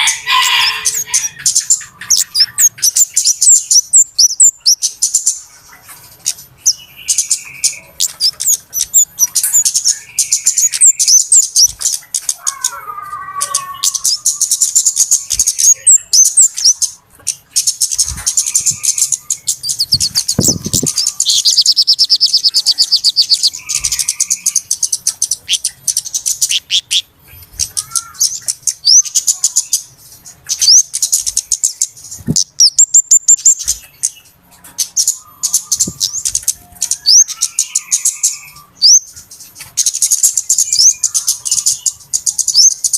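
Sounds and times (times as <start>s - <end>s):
bird trill: 0.0s - 42.9s
small birds chirping: 0.0s - 42.9s.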